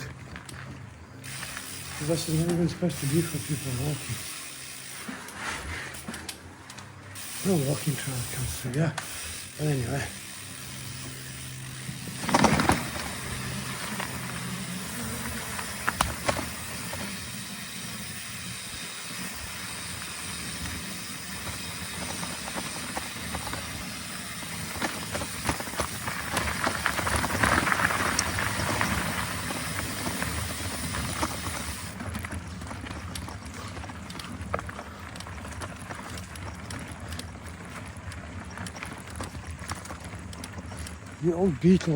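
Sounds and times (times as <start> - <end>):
bicycle tyres rolling on trail: 0.0 - 41.9.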